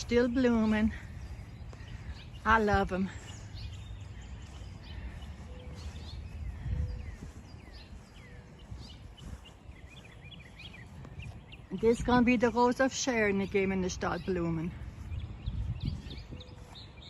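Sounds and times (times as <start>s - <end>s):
low rumble on microphone: 0.0s - 12.7s, 13.4s - 17.0s
songbirds chirping: 0.0s - 17.0s.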